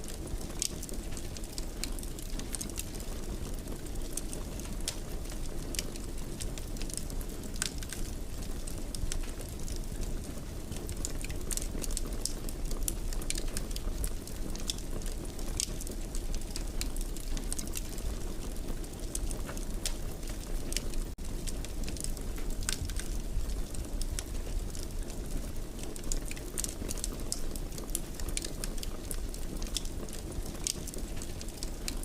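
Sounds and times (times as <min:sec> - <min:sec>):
fire crackling and popping: 0:00.0 - 0:32.0
fire flames roaring: 0:00.0 - 0:32.0.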